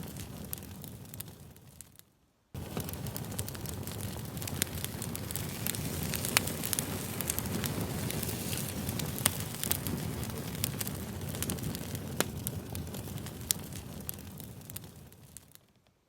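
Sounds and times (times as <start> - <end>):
campfire crackling: 0.0 - 2.0, 2.6 - 15.9.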